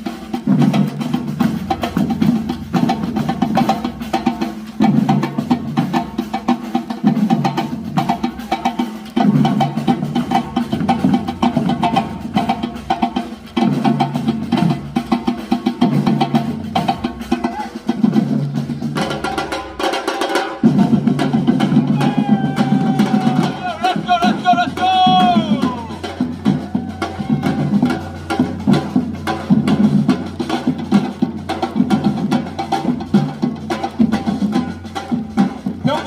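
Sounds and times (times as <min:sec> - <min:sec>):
percussion band drumming: 0:00.0 - 0:36.0.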